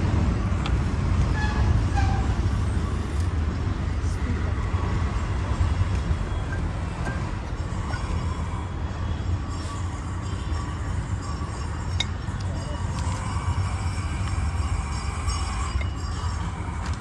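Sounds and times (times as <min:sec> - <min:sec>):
road traffic rumbling: 0:00.0 - 0:17.0.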